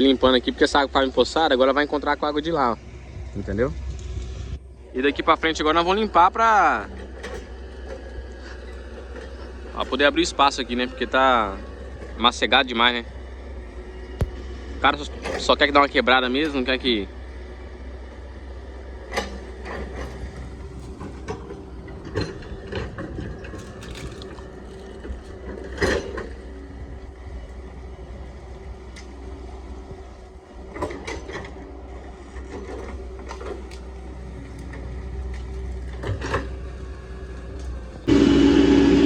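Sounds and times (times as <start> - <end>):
excavator engine running: 0.0 - 39.0.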